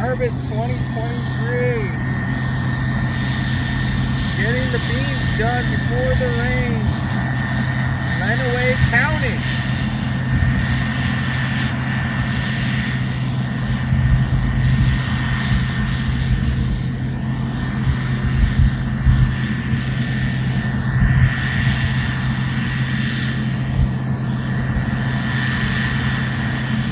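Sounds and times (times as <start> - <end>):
combine harvester engine drone: 0.0 - 26.9
steady high whine: 0.0 - 26.9.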